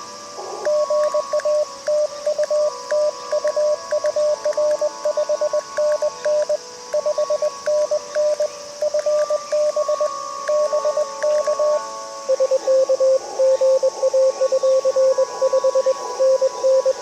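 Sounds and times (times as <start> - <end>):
faint morse signals: 0.0 - 17.0
radio band hiss: 0.0 - 17.0
morse code tone: 0.7 - 17.0.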